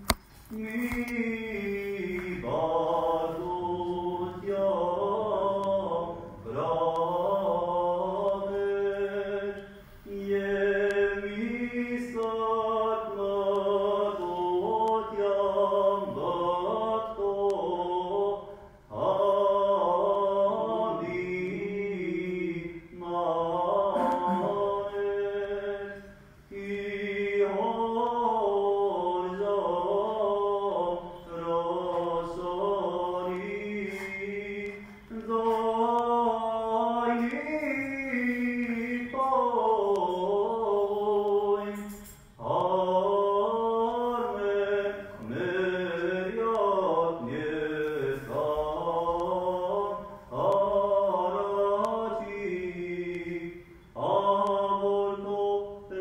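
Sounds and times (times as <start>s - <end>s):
clergy chanting: 0.5s - 56.0s.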